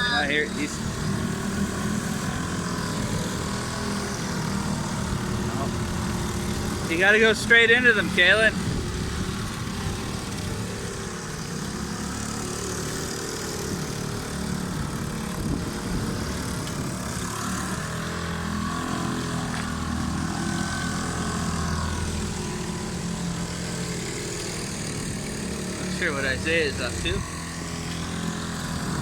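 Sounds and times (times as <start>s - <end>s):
small boat motors droning: 0.0s - 29.0s.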